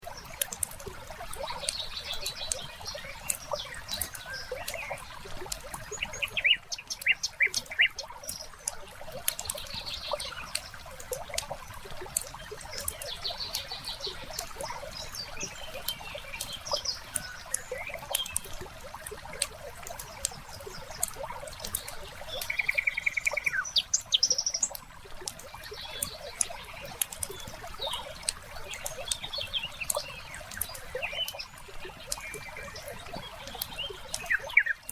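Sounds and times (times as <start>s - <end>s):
birds chirping: 0.0s - 34.9s
wood fire crackling: 0.0s - 34.9s.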